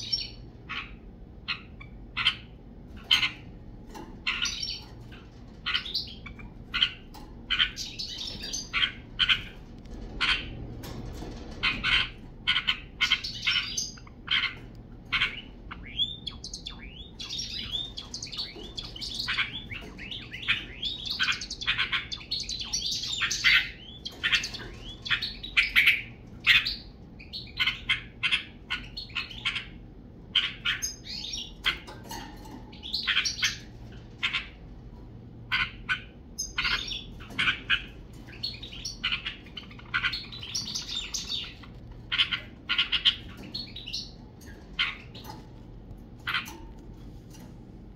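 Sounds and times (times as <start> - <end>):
sparrows chirping: 0.0 - 10.6, 11.6 - 34.7, 35.5 - 47.4.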